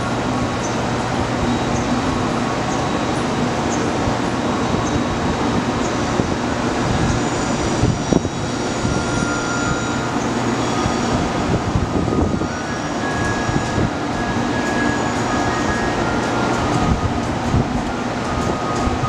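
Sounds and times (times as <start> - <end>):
electric trains droning: 0.0 - 19.0
faint steady whines: 0.0 - 19.0.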